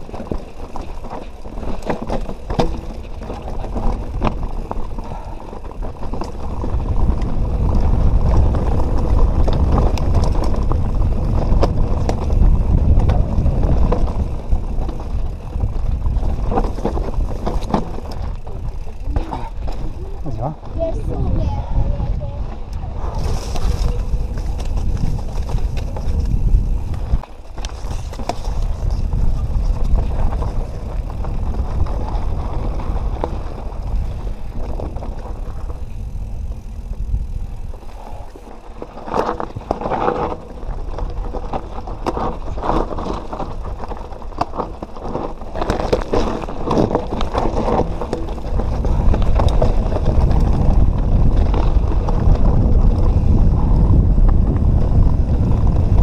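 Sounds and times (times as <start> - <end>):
bike knocking and rattling: 0.0 - 56.0
wind rumbling on microphone: 0.0 - 56.0.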